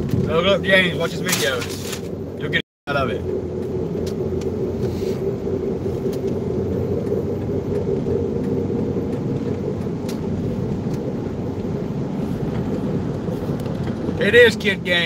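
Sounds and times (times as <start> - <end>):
car road noise at highway speed: 0.0 - 15.0
tyre and engine drone: 0.0 - 15.0.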